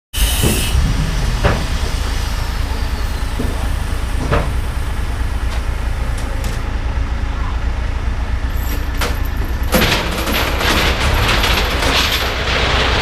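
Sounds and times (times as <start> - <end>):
heavy diesel engine running: 0.2 - 13.0.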